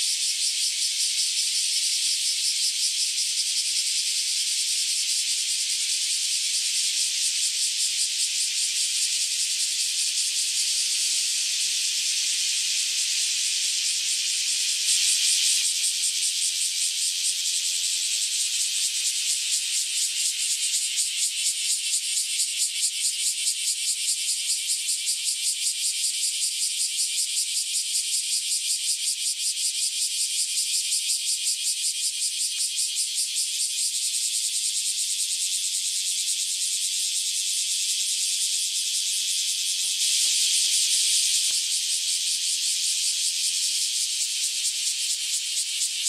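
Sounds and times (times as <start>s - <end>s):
cicadas buzzing in chorus: 0.0s - 46.0s.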